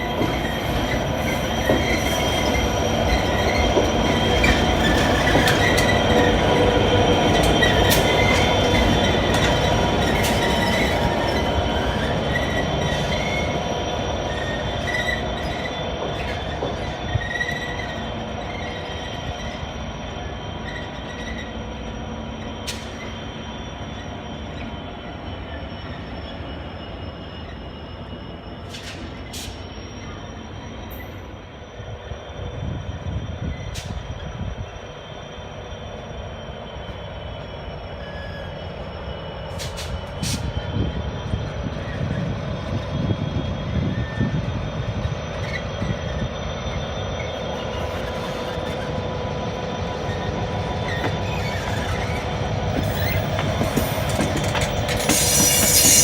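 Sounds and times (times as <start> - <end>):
low train rumble: 0.0 - 56.0
train high-pitched squeal: 0.0 - 56.0.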